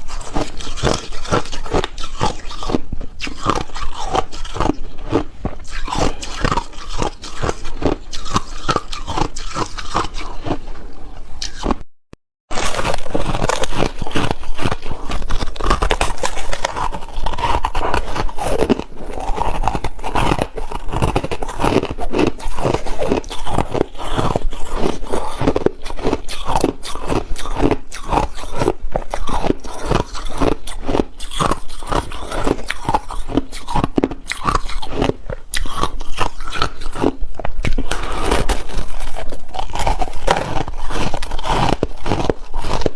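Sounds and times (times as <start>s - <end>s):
person crunching ice: 0.0s - 11.8s, 12.5s - 42.9s.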